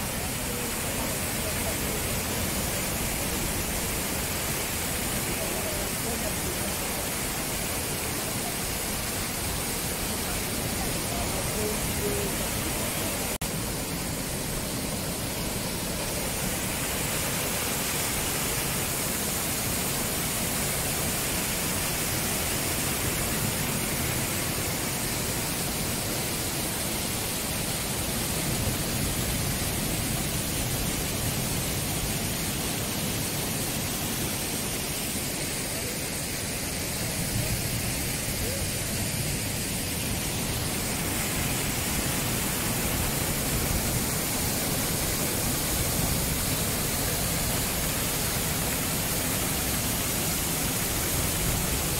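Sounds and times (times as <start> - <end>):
waterfall rushing over rocks: 0.0 - 51.9.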